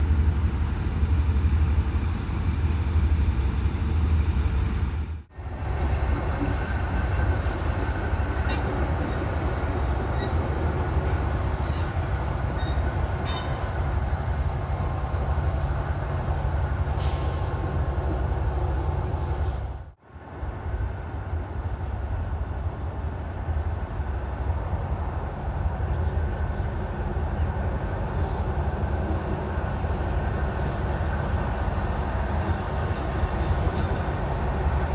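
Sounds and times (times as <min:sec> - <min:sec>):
diesel train rumbling: 0:00.0 - 0:34.9.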